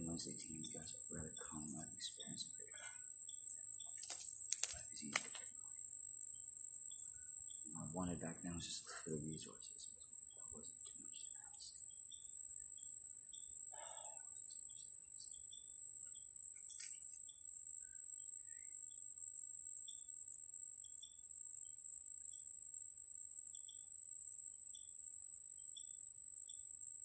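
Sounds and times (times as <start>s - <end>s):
high-pitched insect drone: 0.0s - 22.5s.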